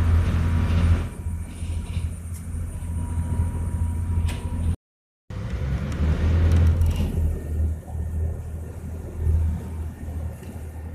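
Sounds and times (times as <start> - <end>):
boat engine rumbling: 0.0 - 10.9.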